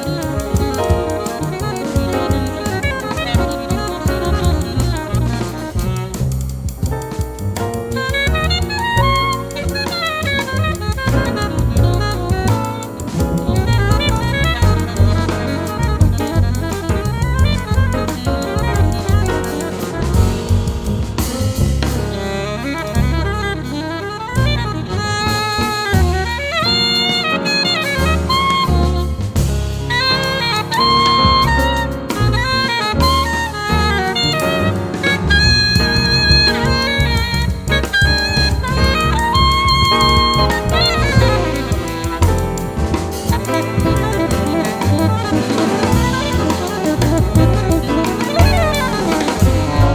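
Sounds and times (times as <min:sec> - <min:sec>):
alto saxophone melody: 0:00.0 - 0:49.9
bass: 0:00.0 - 0:49.9
drum kit keeping time: 0:00.0 - 0:49.9
piano: 0:00.0 - 0:49.9.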